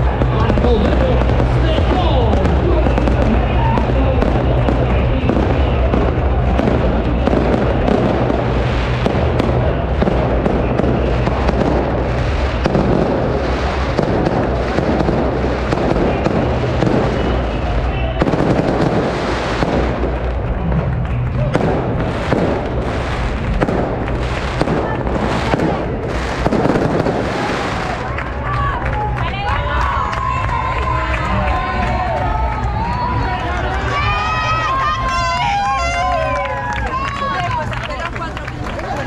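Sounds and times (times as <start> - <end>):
crowd voices: 0.0 - 39.0
firecrackers crackling: 0.0 - 39.0.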